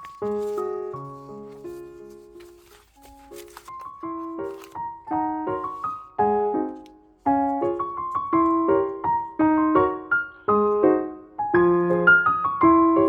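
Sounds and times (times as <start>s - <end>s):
light piano melody: 0.0s - 13.0s.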